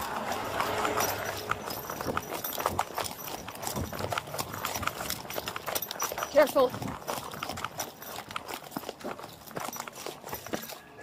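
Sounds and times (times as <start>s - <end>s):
running footsteps on pavement: 0.0s - 11.0s.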